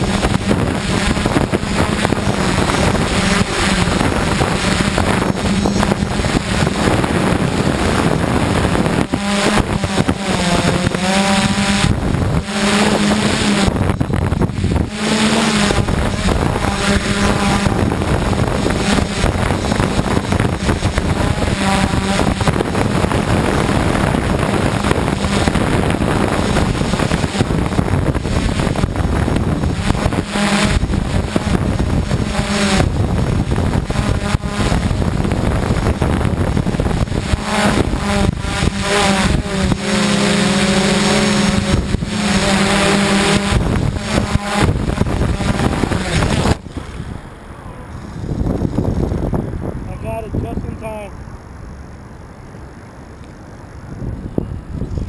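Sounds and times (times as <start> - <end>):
drone motors and propellers droning: 0.0 - 55.0
wind buffeting microphone: 0.0 - 55.0.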